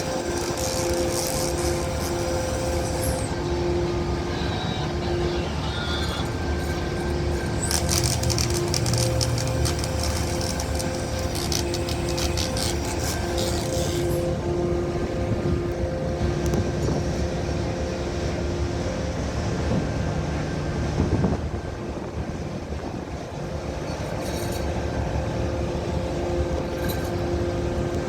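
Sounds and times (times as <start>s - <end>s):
ship engine droning: 0.0s - 28.0s.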